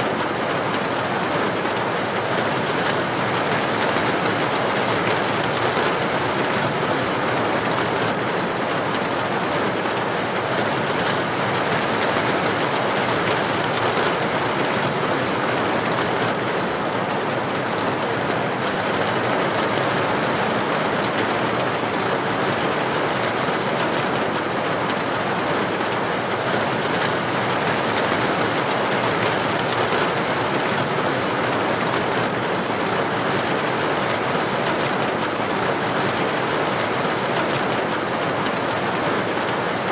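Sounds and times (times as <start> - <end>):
heavy rain on a street: 0.0 - 39.9.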